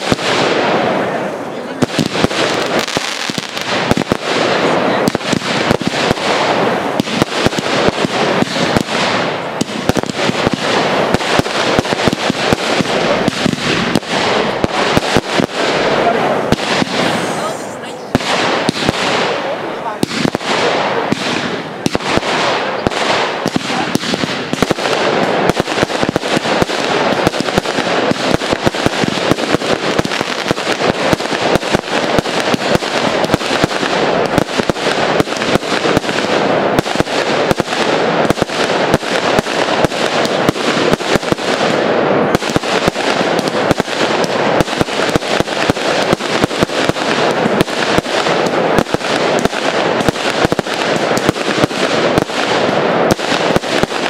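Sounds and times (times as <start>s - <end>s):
fireworks bursts and crackling: 0.0s - 54.0s.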